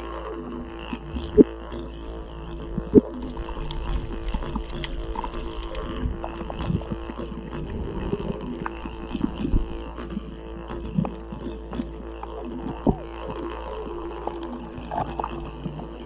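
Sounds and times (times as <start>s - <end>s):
didgeridoo drone: 0.0s - 16.0s.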